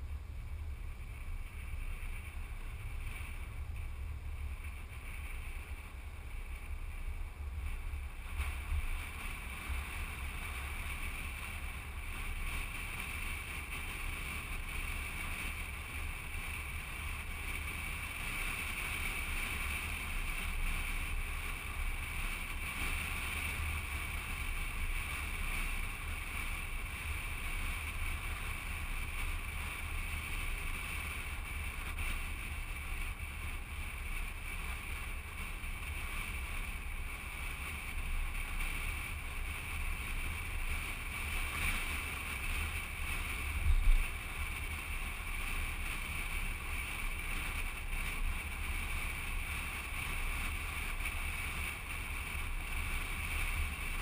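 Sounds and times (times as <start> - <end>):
road rumble: 0.0 - 54.0
wind rush on moving car: 0.0 - 54.0.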